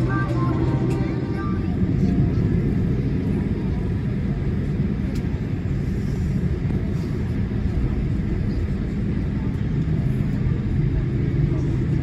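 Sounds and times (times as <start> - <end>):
airplane cabin rumble while taxiing: 0.0 - 12.0.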